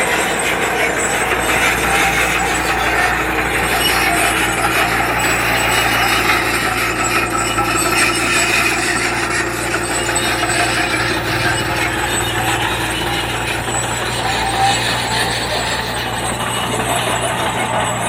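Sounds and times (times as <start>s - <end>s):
diesel engine running: 0.0s - 18.0s
machinery grinding and scraping: 0.0s - 18.0s.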